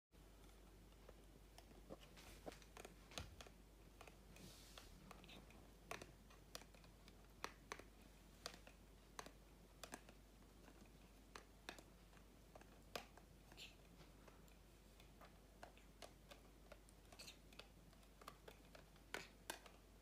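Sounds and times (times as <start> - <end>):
cat nibbling and licking plastic: 0.2 - 20.0.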